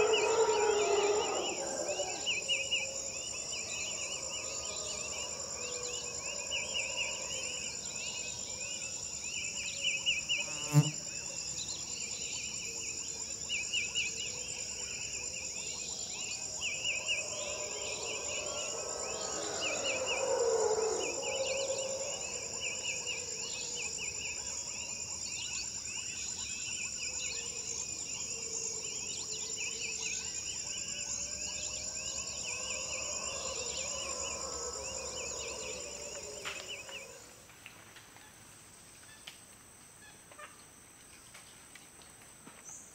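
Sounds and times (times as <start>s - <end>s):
insect drone and chirping: 0.0s - 42.9s.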